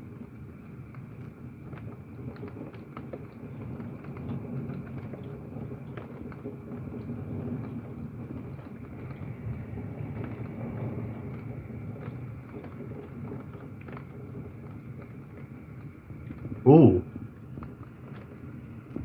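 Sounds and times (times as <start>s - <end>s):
heavy rain through window: 0.0s - 19.0s
raindrops ticking: 0.0s - 19.0s.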